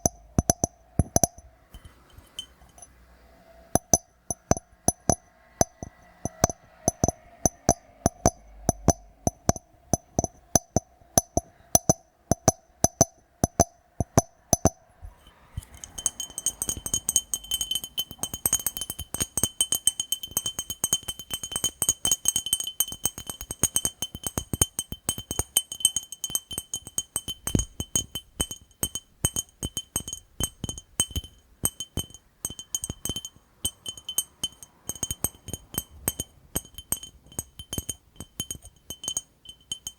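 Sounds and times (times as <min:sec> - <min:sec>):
glass ringing high tone: 0:00.0 - 0:03.0, 0:03.6 - 0:39.9
tapping on glass jar: 0:00.0 - 0:03.0, 0:03.8 - 0:39.9.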